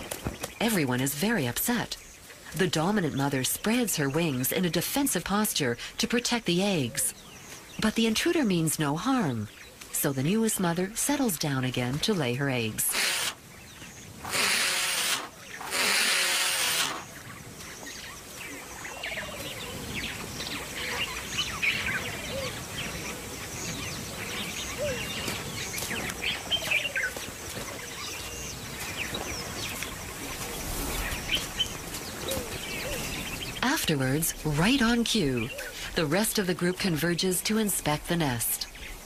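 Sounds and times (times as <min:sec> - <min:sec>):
outdoor background hiss: 0:00.0 - 0:39.0
small birds chirping: 0:00.0 - 0:39.0.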